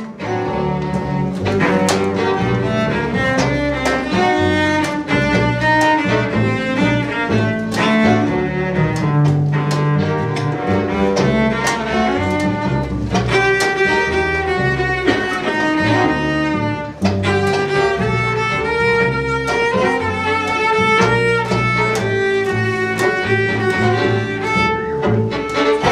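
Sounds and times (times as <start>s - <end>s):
string quartet playing: 0.0s - 25.9s.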